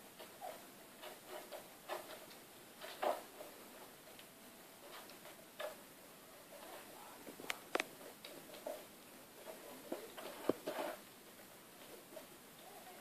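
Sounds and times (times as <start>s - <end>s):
kittens tapping and scratching: 0.0s - 5.9s, 6.5s - 12.8s.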